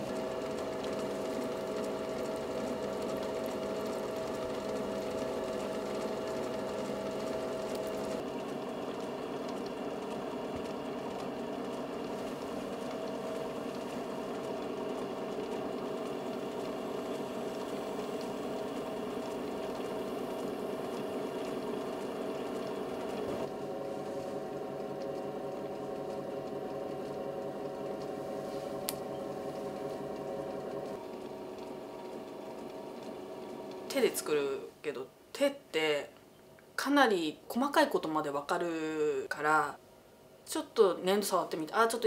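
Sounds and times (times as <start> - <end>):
potter's wheel motor hum: 0.0 - 34.8.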